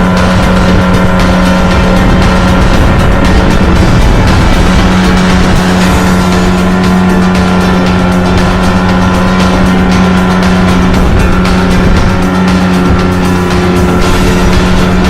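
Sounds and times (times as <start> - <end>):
motorboat engine droning: 0.0 - 15.0.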